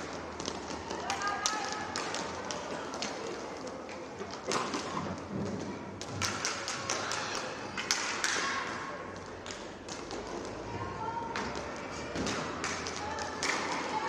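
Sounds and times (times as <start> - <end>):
hall hubbub: 0.0 - 14.0
hockey sticks clacking on puck: 0.0 - 14.0
skates on rink surface: 0.0 - 14.0.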